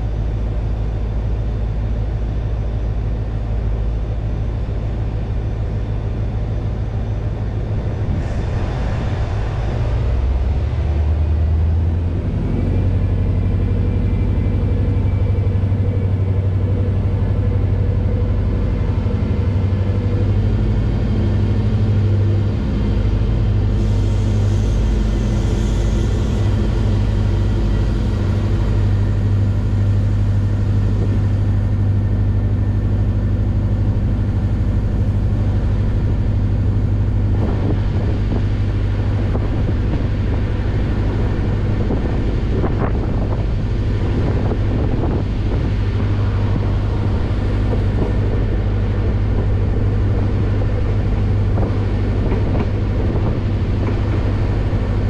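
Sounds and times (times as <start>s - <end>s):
train rumbling with hum: 0.0s - 55.0s.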